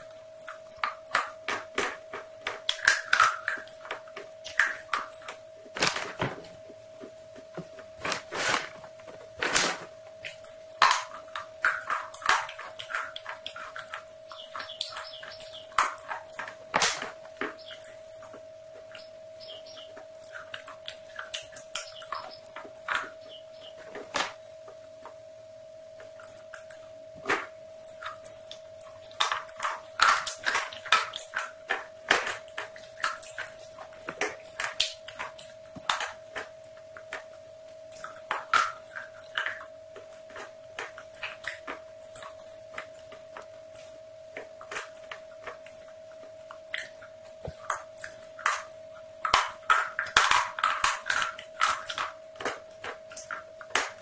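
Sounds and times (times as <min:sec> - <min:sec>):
crunching fried chicken: 0:00.0 - 0:25.1, 0:26.0 - 0:54.0
constant steady tone: 0:00.0 - 0:54.0.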